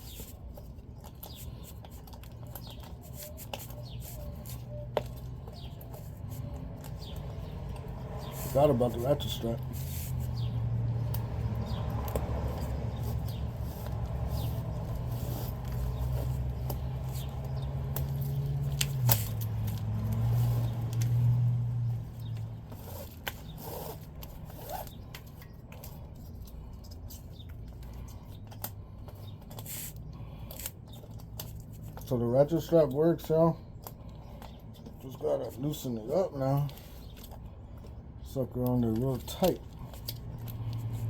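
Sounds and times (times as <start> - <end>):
ratchet strap clicking and scraping: 0.0 - 35.8, 38.7 - 41.0.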